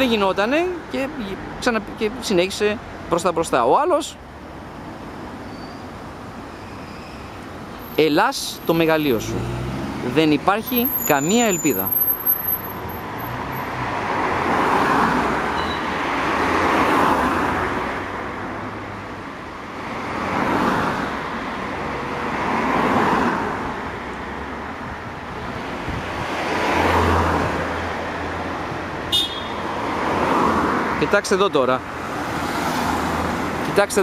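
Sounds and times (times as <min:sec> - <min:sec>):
cars driving past: 0:04.2 - 0:34.0.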